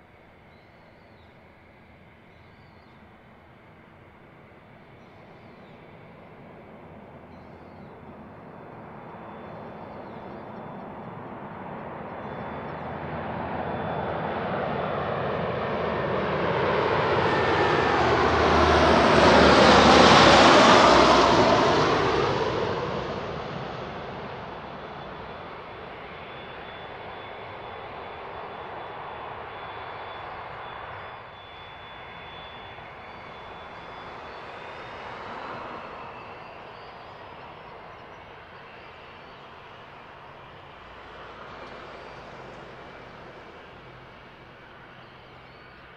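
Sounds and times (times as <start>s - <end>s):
jet engines whining: 0.4s - 45.9s.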